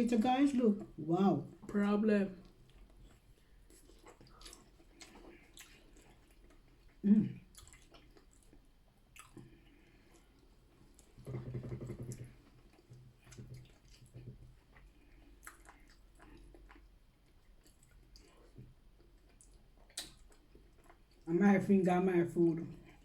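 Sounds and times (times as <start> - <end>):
quiet chewing with wet clicks: 0.5 - 1.7, 2.3 - 21.3, 22.6 - 23.0.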